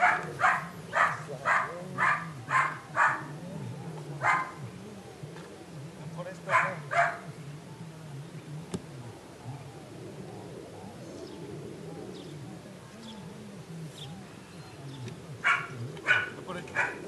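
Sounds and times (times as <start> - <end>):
doves cooing: 0.0 - 17.0
small birds chirping: 0.0 - 17.0.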